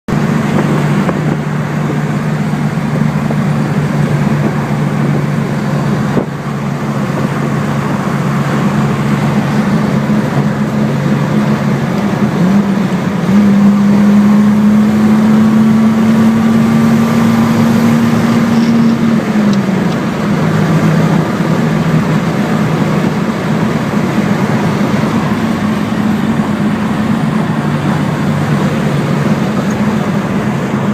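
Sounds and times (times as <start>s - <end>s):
car engine revving: 0.1s - 30.9s.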